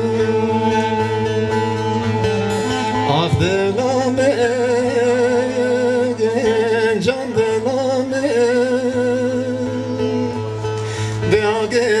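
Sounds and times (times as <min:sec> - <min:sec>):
long-necked lute playing: 0:00.0 - 0:12.0
man singing with vibrato: 0:00.0 - 0:12.0.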